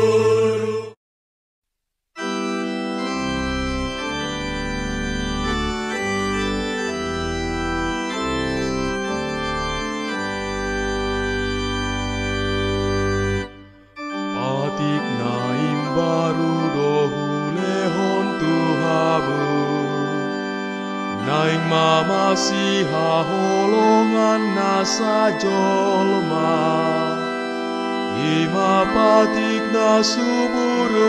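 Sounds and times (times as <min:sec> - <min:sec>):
organ music: 0:00.0 - 0:01.0, 0:02.2 - 0:31.0.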